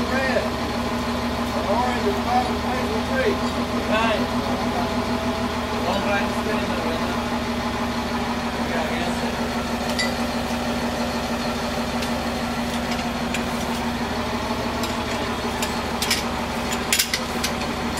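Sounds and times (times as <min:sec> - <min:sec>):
engine idling: 0:00.0 - 0:17.9.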